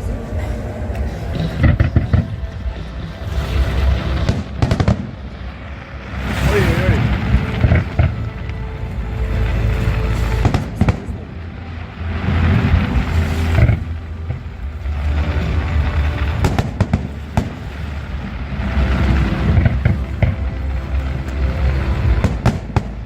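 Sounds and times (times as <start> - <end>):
music: 0.0 - 23.0
fireworks booming: 1.0 - 23.0
firework cracks: 1.3 - 23.0.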